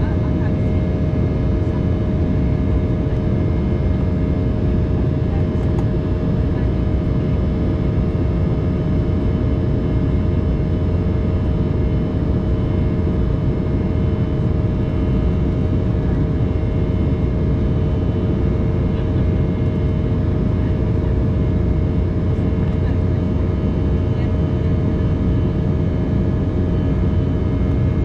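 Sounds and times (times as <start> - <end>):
airliner cabin noise: 0.0 - 28.0
jet engine hum: 0.0 - 28.0.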